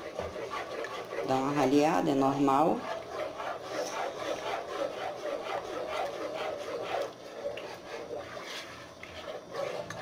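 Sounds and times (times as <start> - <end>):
spoon scraping a pot: 0.0 - 10.0.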